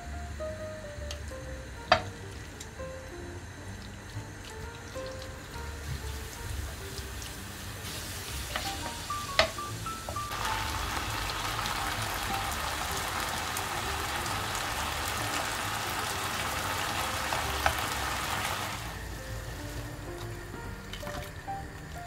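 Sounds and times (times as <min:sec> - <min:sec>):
chicken sizzling in oil: 0:01.6 - 0:22.0.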